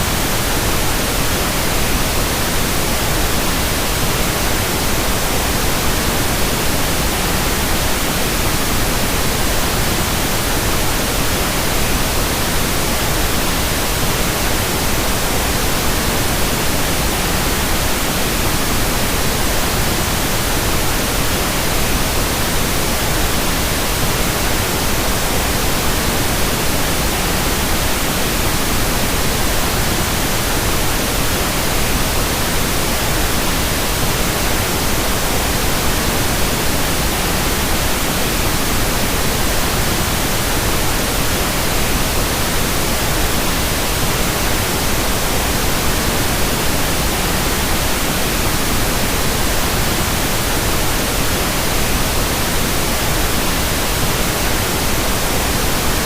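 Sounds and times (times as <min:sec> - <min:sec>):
steady broadband hiss: 0:00.0 - 0:56.0.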